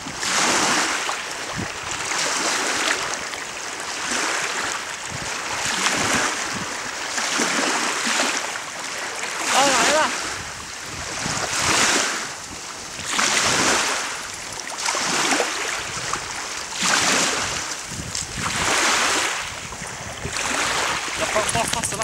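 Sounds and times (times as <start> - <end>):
lake water washing against shore: 0.0 - 22.0
wind: 0.0 - 22.0.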